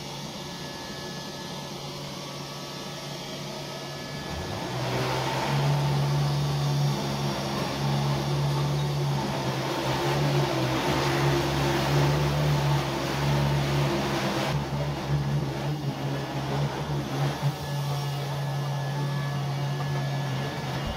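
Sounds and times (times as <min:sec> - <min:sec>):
robot vacuum cleaner running: 0:00.0 - 0:20.9.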